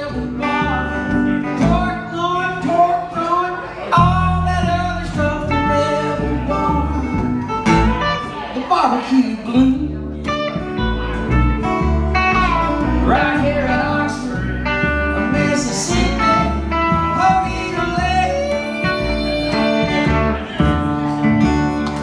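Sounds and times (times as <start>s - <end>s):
walking bass notes: 0.0s - 8.6s, 9.4s - 22.0s
blues band playing live: 0.0s - 22.0s.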